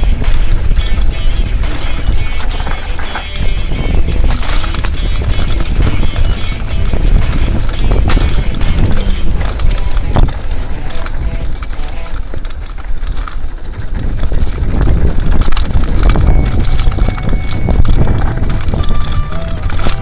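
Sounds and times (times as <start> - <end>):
bike rattling over bumps: 0.0 - 20.0
wind buffeting microphone: 0.0 - 20.0.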